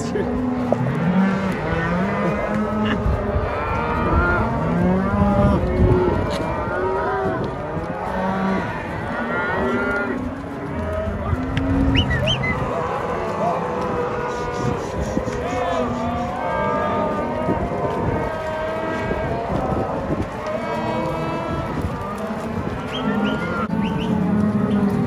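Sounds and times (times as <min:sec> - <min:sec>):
cows mooing and bawling: 0:00.0 - 0:25.0.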